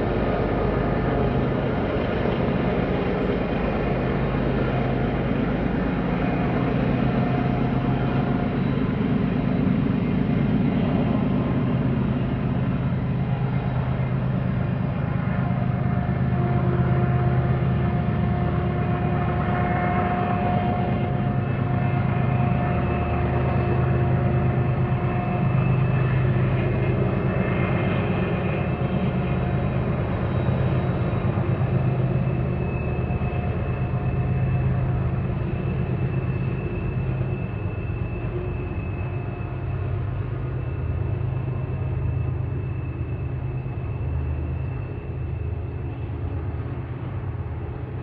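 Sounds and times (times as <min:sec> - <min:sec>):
diesel locomotive engine drone: 0:00.0 - 0:48.0.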